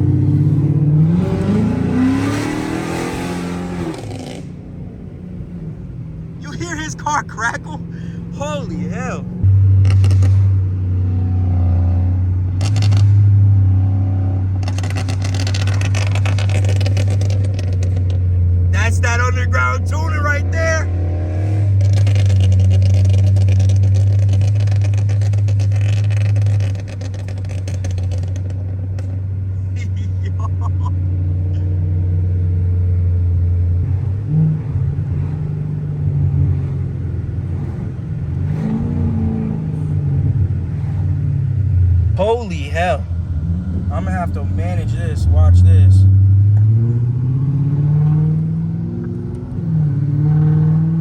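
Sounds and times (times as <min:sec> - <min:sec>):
car exhaust crackling and popping: 0:00.0 - 0:47.4, 0:48.0 - 0:51.0
low engine drone: 0:00.0 - 0:51.0.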